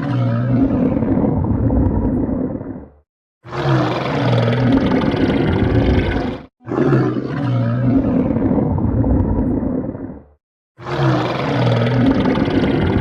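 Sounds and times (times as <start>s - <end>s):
stomach growling: 0.0s - 3.0s, 3.8s - 10.4s, 11.0s - 13.0s.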